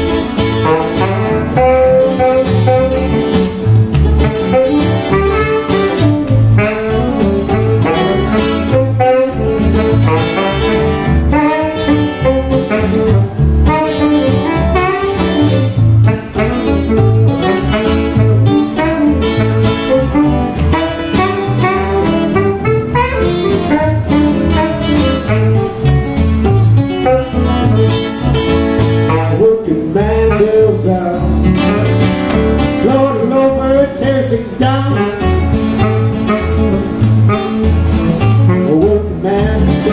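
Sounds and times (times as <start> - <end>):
acoustic guitars strumming: 0.0 - 39.9
saxophone: 0.0 - 39.9.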